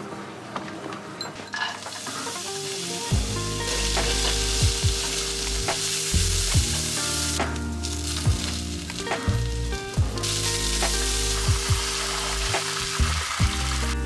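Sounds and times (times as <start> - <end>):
onions sizzling in oil: 1.8 - 14.0.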